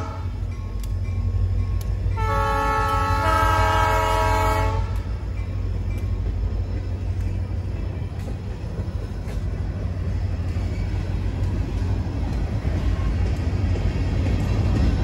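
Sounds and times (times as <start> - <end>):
freight train rolling on rails: 0.0 - 15.0
faint rail clicks: 0.3 - 3.2, 4.8 - 15.0.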